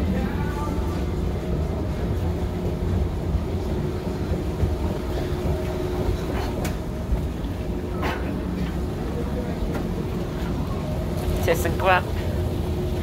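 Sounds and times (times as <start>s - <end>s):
moving walkway rumbling: 0.0s - 13.0s.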